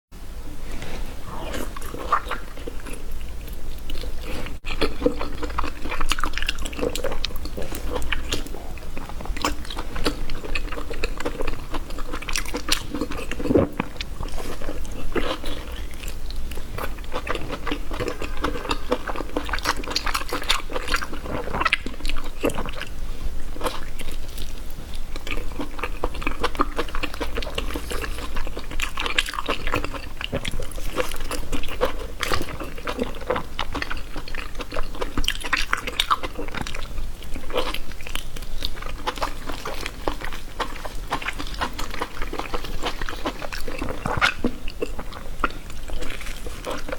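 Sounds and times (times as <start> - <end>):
chewing and wet mouth sounds: 1.3 - 46.9.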